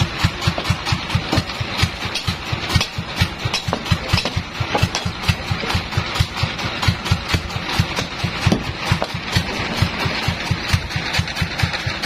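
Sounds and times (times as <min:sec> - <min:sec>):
engine chugging at idle: 0:00.0 - 0:12.0.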